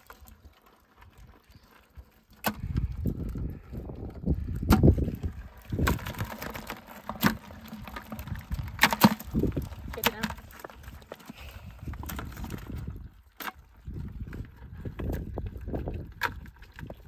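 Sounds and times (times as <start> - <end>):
crawfish clacking and rattling: 0.0 - 17.0.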